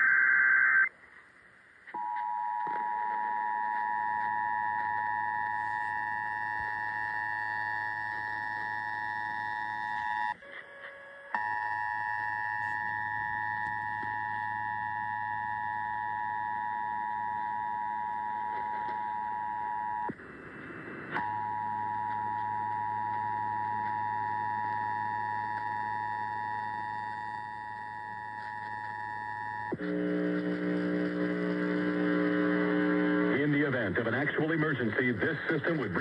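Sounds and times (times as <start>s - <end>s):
radio static: 0.0s - 0.9s, 1.9s - 36.0s.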